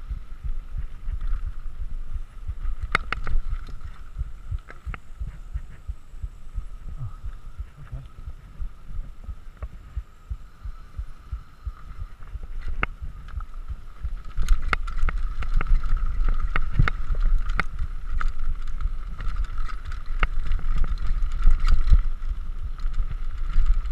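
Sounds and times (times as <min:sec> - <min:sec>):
steady high buzz: 0:00.0 - 0:19.2
bike rattling over ground: 0:00.0 - 0:23.9
wind rumbling on microphone: 0:00.0 - 0:23.9.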